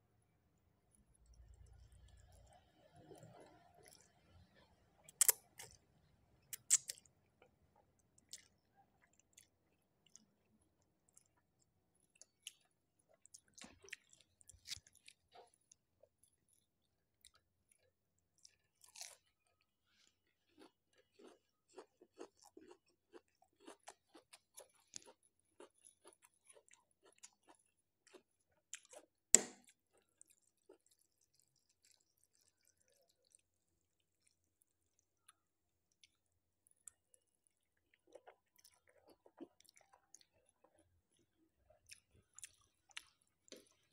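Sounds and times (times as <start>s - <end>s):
wet rhythmic chewing: 0.9s - 43.9s.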